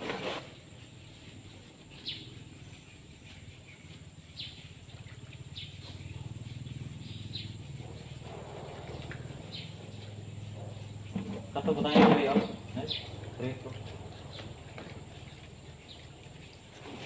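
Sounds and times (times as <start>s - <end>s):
low steady hum: 0.5s - 17.0s
bird chirping: 1.5s - 16.6s.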